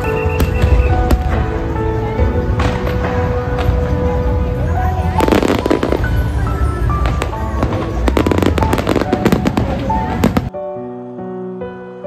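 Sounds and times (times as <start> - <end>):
fireworks bangs and crackles: 0.0 - 10.5.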